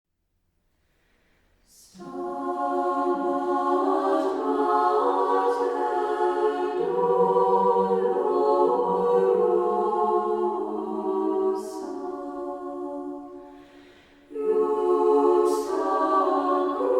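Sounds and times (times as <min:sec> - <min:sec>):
choir singing a cappella: 0:01.6 - 0:16.9.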